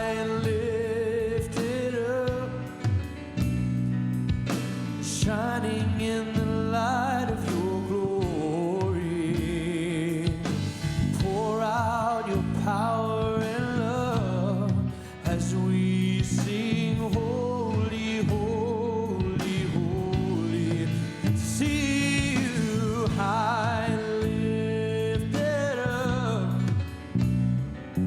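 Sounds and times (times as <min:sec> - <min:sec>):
person singing: 0:00.0 - 0:03.0, 0:05.1 - 0:26.9
band playing slow gospel song: 0:00.0 - 0:28.0.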